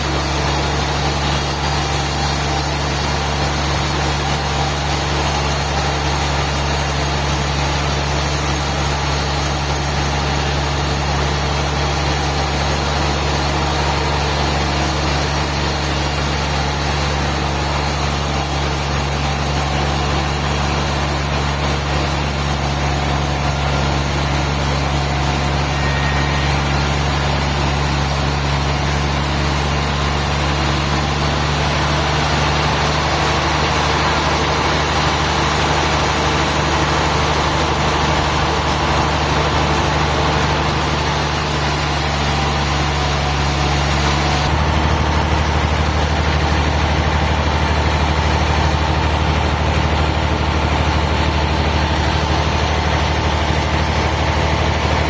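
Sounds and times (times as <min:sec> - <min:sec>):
large engine running: 0:00.0 - 0:55.0.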